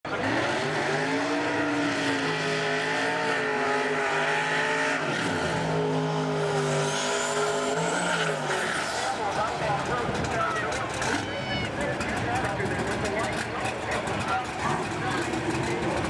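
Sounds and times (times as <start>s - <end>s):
car engine at high revs: 0.1s - 16.0s.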